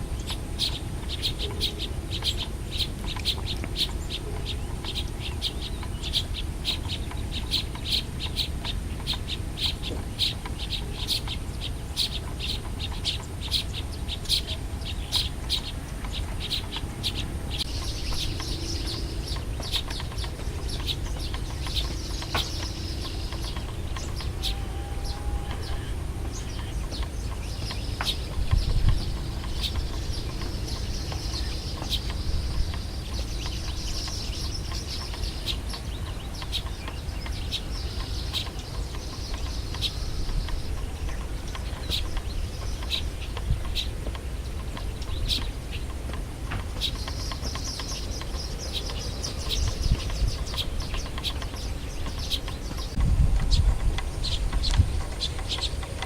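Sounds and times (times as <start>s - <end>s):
birds chirping: 0.0s - 56.0s
steady low rumble: 0.0s - 56.0s.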